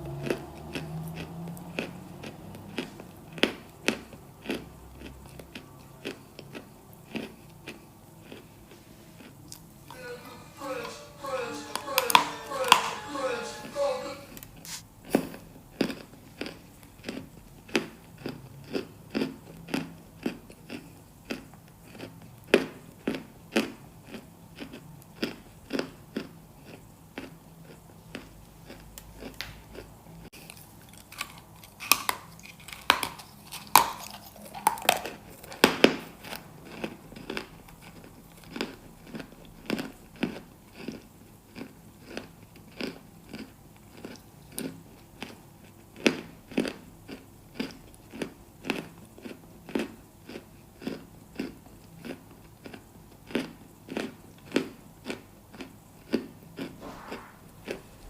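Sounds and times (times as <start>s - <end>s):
crunchy chewing: 0.2s - 9.7s, 14.7s - 55.7s.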